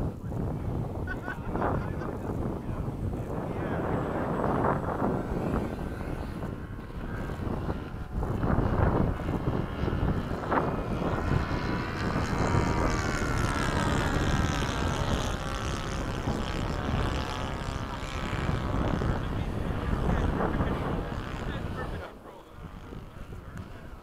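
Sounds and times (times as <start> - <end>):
model jet motor whine: 0.0 - 24.0
wind buffeting microphone: 0.0 - 24.0.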